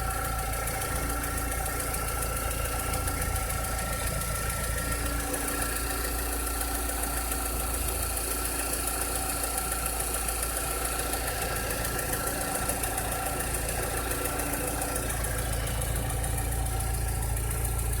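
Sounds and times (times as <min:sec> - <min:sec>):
car engine idling: 0:00.0 - 0:18.0
fast even engine ticking: 0:00.0 - 0:18.0.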